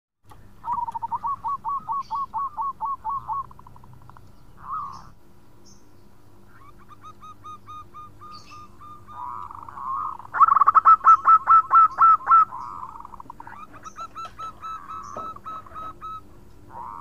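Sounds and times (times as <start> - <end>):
dove cooing: 0.5 - 5.2, 6.5 - 17.0.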